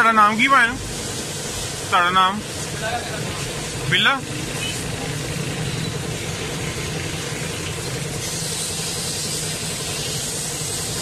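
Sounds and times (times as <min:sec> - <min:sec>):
pressure washer pump humming: 0:00.0 - 0:11.0
spraying water hiss: 0:00.0 - 0:11.0.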